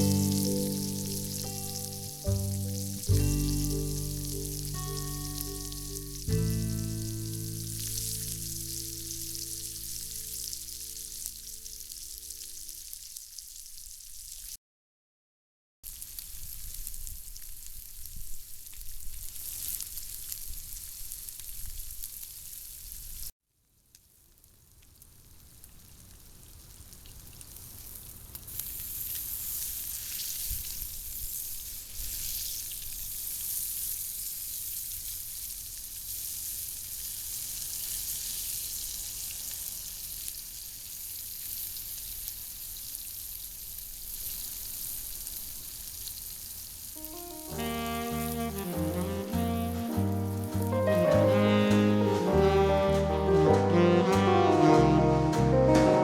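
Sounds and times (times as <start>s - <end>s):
food sizzling in a pan: 0.0s - 14.6s, 15.8s - 23.3s, 24.1s - 53.2s.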